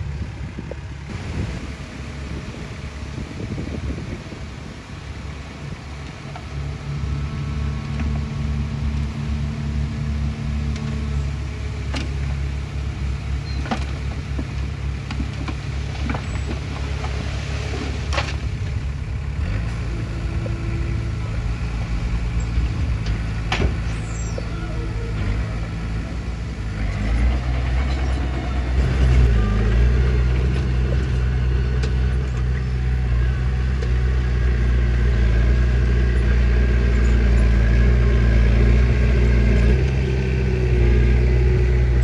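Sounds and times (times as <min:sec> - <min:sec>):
diesel engines running: 0:00.0 - 0:42.0.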